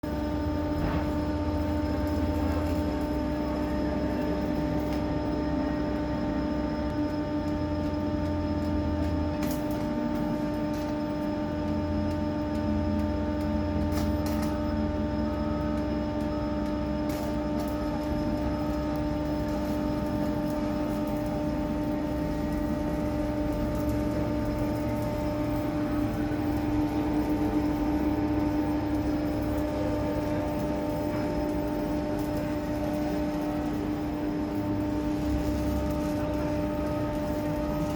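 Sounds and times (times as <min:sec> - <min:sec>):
machine hum: 0:00.0 - 0:37.9.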